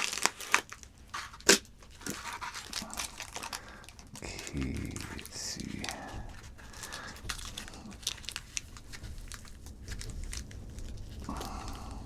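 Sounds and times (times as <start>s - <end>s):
packing material crinkling: 0.0s - 12.0s
rasping rustle: 0.0s - 12.0s.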